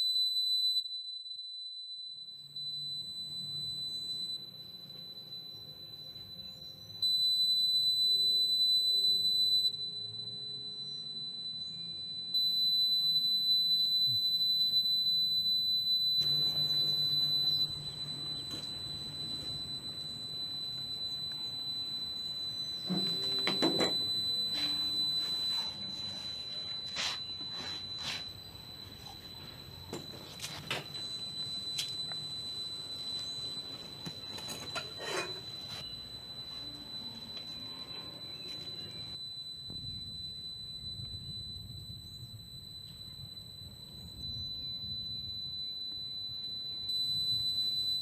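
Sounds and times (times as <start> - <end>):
high-pitched electronic tone: 2.2 - 48.0.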